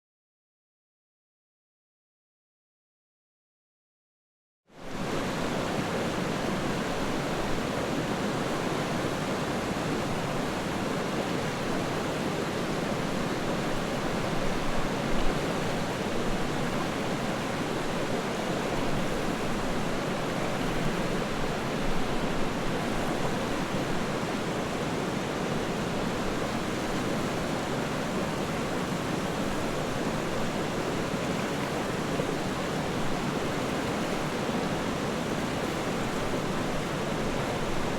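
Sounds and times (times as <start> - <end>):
river water rushing and splashing: 4.8 - 37.9.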